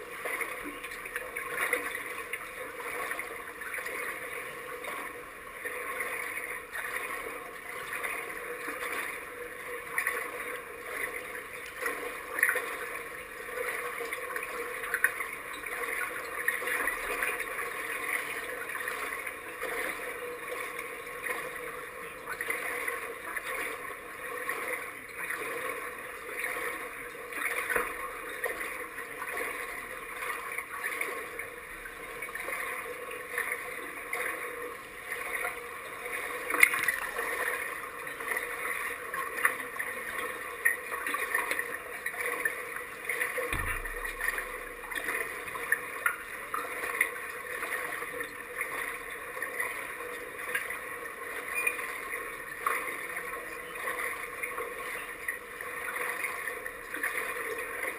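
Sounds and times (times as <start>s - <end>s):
small water splashes: 0.0s - 57.9s
water lapping and gurgling: 0.0s - 57.9s.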